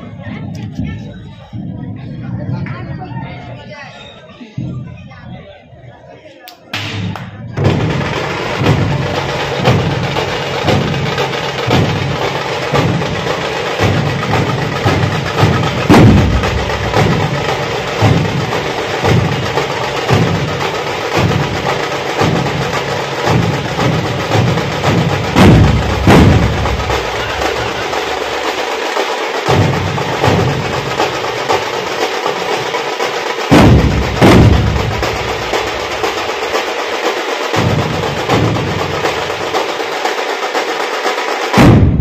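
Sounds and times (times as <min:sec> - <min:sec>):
dhol drums beating: 0:06.9 - 0:42.0.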